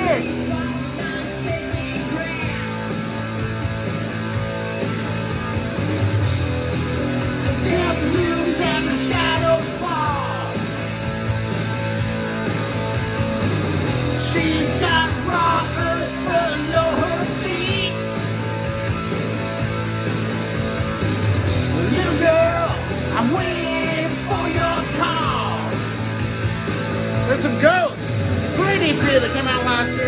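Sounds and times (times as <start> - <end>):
rock song with guitar and singing: 0.0 - 30.0.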